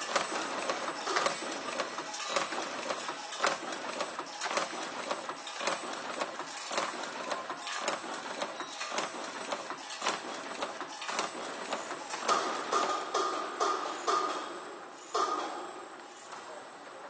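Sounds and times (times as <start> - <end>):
wire-forming machine clattering: 0.0 - 14.6.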